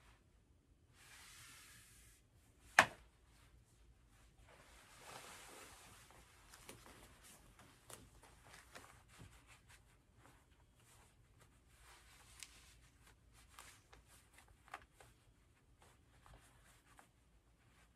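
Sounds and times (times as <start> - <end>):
fabric rustling: 1.0 - 17.9.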